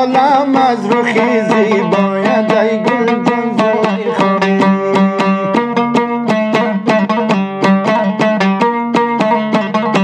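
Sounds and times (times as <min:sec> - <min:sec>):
plucked lute strumming: 0:00.0 - 0:10.0.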